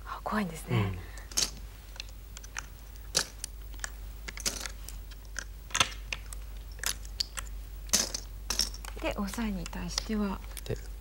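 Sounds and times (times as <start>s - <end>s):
game stones clicking on board: 1.2s - 10.9s.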